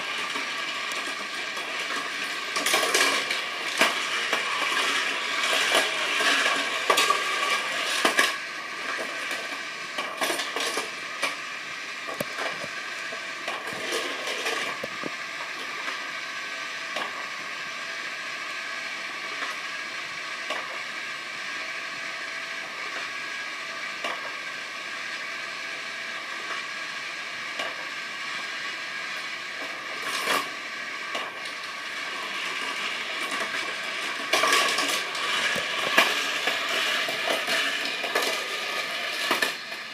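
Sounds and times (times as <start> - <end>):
toy cars whirring: 0.0 - 39.9.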